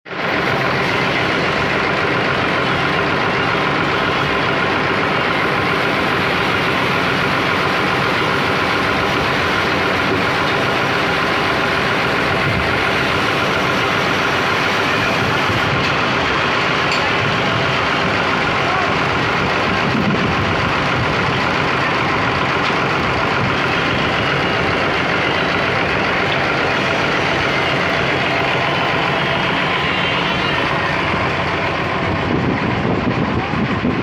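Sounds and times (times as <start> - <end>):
large engine running steadily: 0.0 - 34.0.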